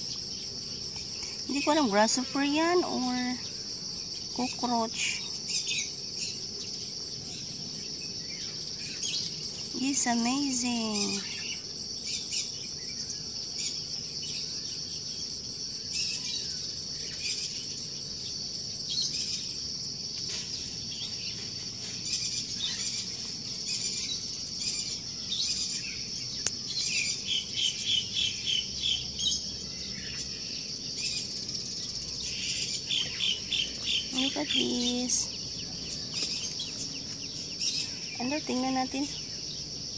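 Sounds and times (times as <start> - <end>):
insect chirps: 0.0 - 39.9
insects shrilling: 0.0 - 39.9.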